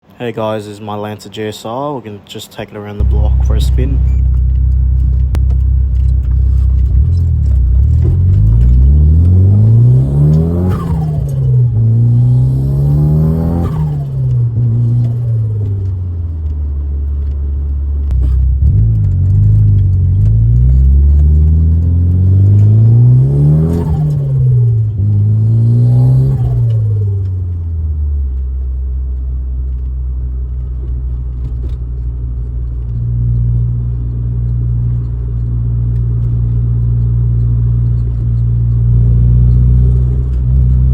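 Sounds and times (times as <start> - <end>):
car engine accelerating hard: 3.0 - 40.9.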